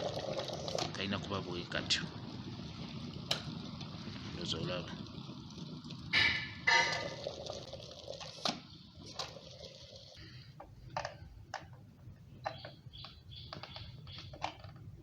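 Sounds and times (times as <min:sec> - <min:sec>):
kettle water boiling: 0:00.0 - 0:15.0.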